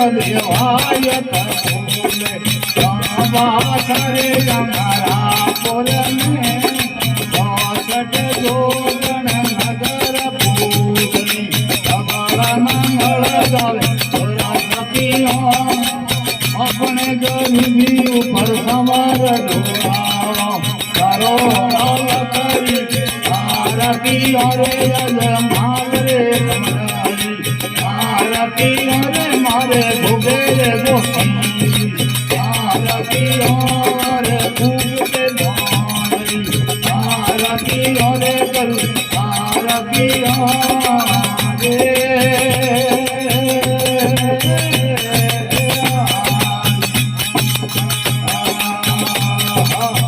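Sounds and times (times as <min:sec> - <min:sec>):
fast rattling percussion: 0:00.0 - 0:50.0.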